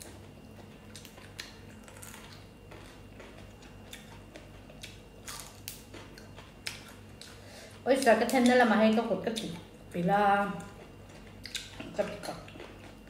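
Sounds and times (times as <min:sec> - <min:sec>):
low steady hum: 0:00.0 - 0:13.0
people eating with crunches: 0:00.0 - 0:13.0.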